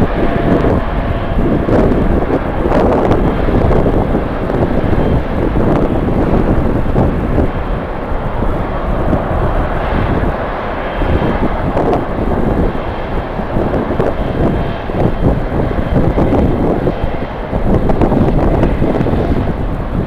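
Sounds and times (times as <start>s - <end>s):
jet engines running: 0.0s - 20.0s
wind buffeting microphone: 0.0s - 20.0s.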